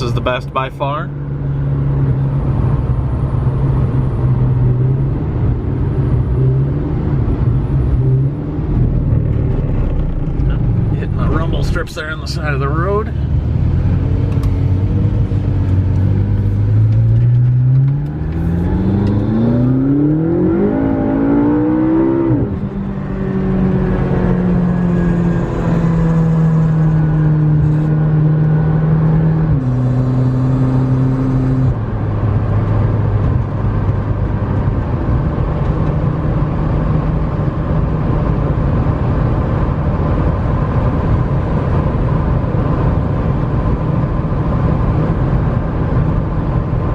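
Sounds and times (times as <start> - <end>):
tyre and road noise: 0.0 - 46.9
car engine accelerating: 1.0 - 46.9.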